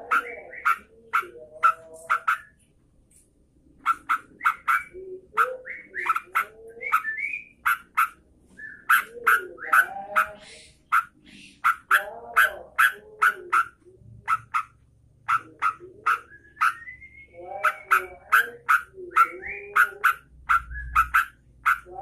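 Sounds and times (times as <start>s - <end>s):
low bird warbling: 3.8s - 22.0s.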